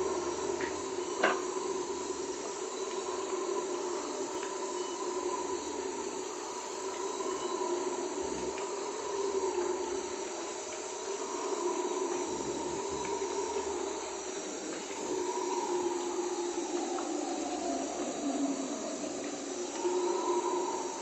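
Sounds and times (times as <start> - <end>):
howler monkeys howling: 0.0 - 21.0
rain hissing: 0.0 - 21.0.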